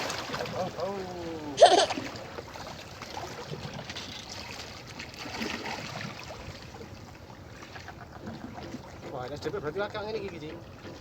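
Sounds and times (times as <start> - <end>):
water lapping at rocky shore: 0.0 - 9.6.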